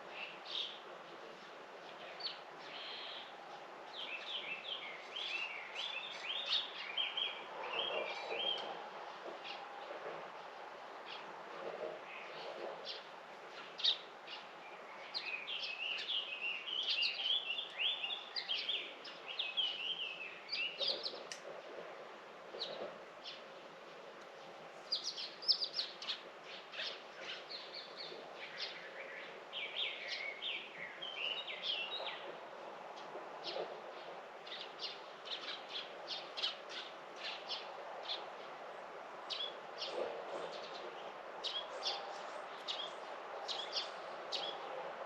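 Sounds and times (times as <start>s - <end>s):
faint steady hiss: 0.0s - 45.0s.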